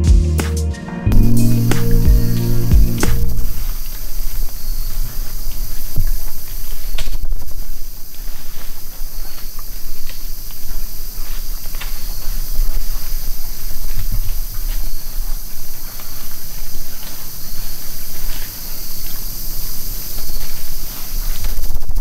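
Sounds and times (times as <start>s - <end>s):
steady high hiss: 1.1s - 22.0s.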